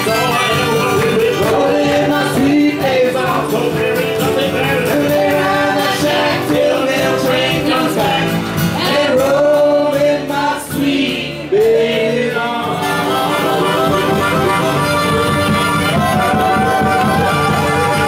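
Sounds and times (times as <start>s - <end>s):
harmonica: 0.0s - 10.5s, 11.1s - 18.0s
strummed acoustic guitar: 0.0s - 18.0s.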